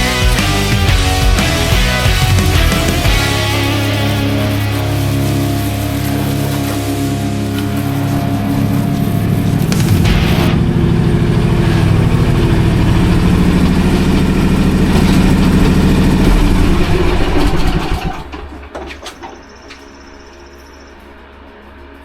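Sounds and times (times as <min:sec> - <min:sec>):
small gasoline engine running: 0:00.0 - 0:18.4.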